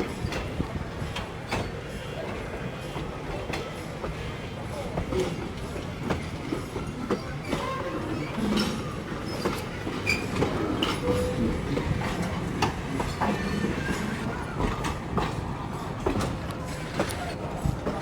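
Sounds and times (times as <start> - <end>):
railway cars rumbling: 0.0 - 18.0
wheels clicking over rail joints: 3.4 - 18.0.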